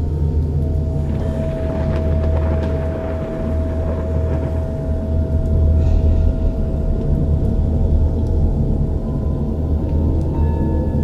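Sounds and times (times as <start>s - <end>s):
deep ritual music drone: 0.0s - 11.0s.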